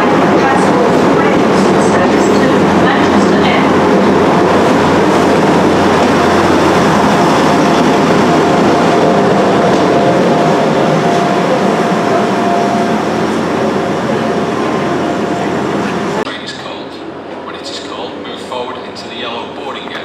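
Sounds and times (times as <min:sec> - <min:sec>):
diesel train engines running: 0:00.0 - 0:20.0.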